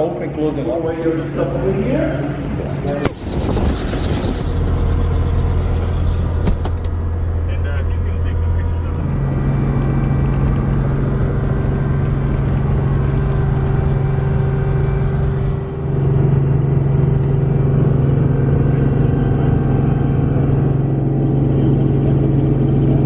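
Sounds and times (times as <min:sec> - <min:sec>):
helicopter engine and rotor drone: 0:02.3 - 0:23.0.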